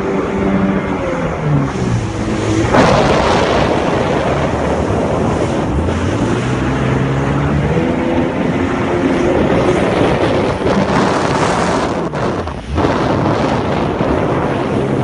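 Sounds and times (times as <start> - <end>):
jet ski engine: 0.0 - 15.0
wind on microphone: 0.0 - 15.0
water spray rushing: 1.1 - 15.0.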